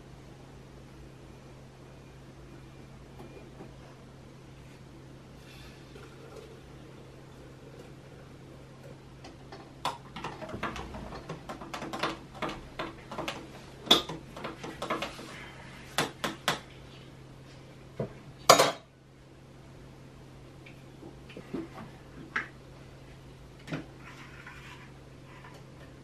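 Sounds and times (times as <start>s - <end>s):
faint steady low hum: 0.0s - 26.0s.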